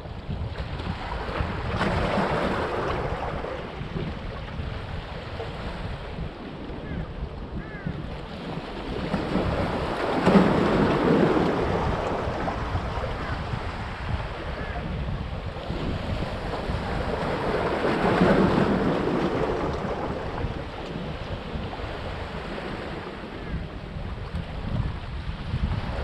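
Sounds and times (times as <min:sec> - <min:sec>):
wind rumble on microphone: 0:00.0 - 0:26.0
sea waves breaking on rocks: 0:00.1 - 0:06.8, 0:08.1 - 0:26.0.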